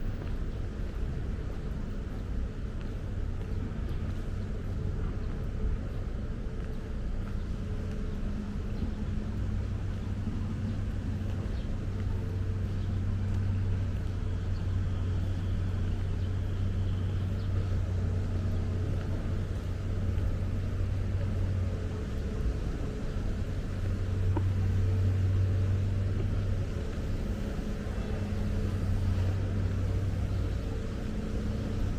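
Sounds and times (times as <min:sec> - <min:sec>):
city background noise: 0:00.0 - 0:31.9
road traffic engine hum: 0:00.0 - 0:31.9.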